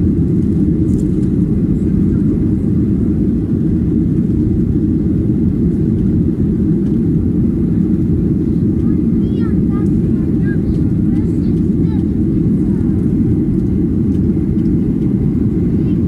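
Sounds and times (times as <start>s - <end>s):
jet engine rumble in cabin: 0.0s - 16.0s.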